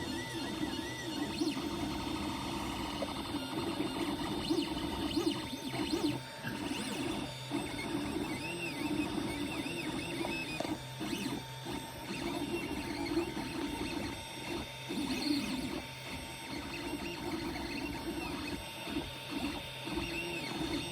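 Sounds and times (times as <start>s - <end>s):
printer motor whirring: 0.0s - 20.9s.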